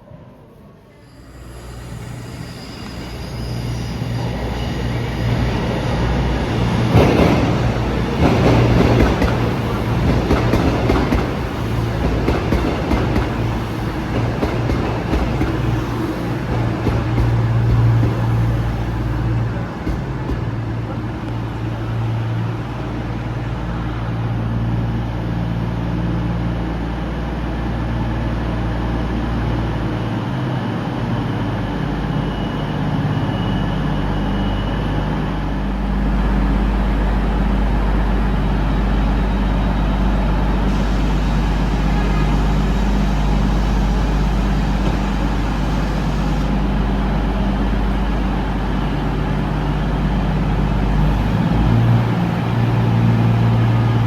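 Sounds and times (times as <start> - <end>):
train engine humming: 0.0 - 54.0.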